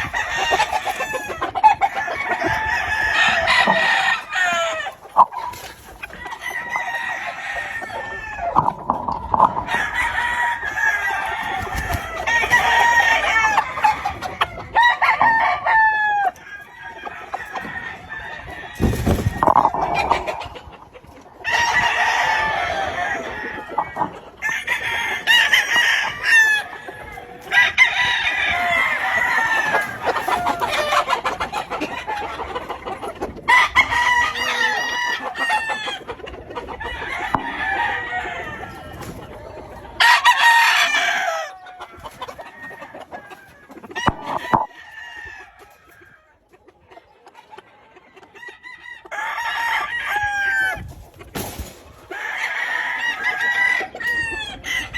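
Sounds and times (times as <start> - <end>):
roosters crowing: 0.0 - 46.4, 47.9 - 54.9
chickens clucking: 0.0 - 54.9.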